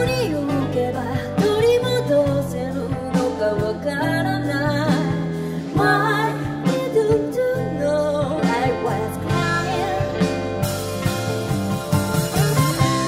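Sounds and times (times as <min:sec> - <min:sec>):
woman singing pop song: 0:00.0 - 0:10.7
instrumental accompaniment: 0:00.0 - 0:13.0.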